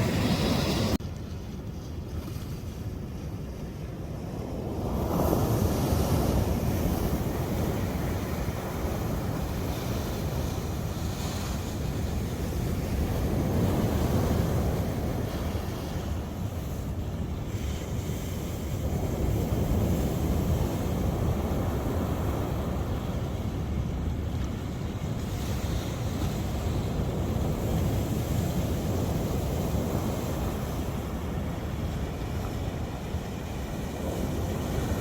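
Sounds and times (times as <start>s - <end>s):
sea waves breaking on shore: 0.0s - 35.0s
wind rumbling on microphone: 0.0s - 35.0s.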